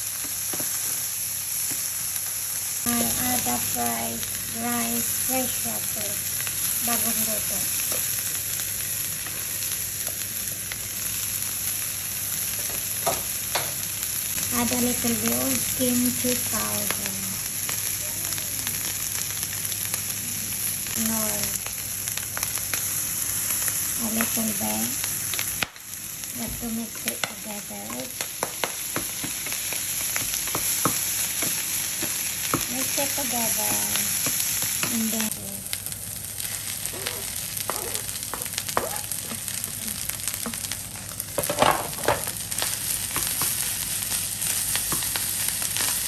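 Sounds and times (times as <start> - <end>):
rice sizzling in a pan: 0.0 - 46.0.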